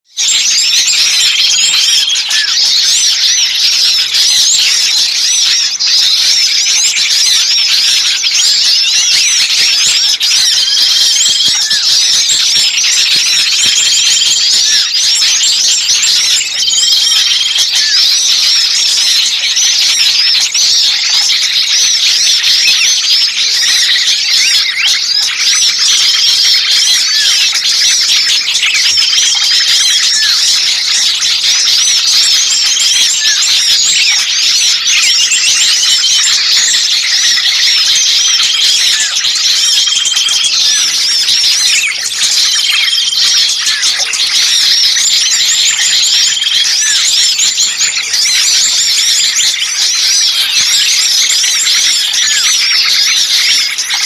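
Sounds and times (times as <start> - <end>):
small birds chattering: 0.0 - 54.0.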